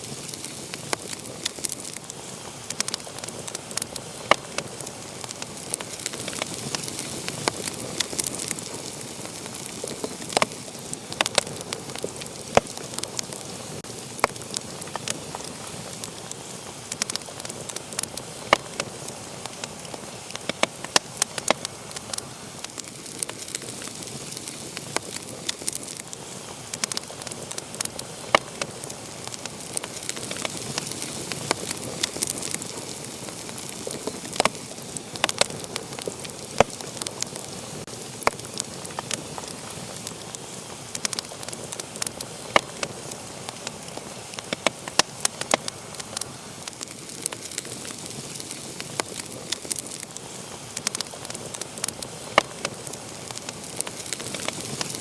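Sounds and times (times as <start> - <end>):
fire hissing: 0.0 - 55.0
wood fire crackling and popping: 0.0 - 55.0.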